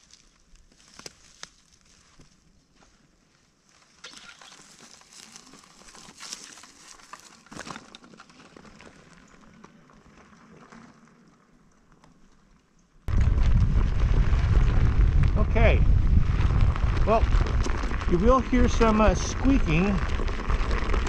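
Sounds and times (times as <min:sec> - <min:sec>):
faint crunching and rustling: 0:00.0 - 0:21.0.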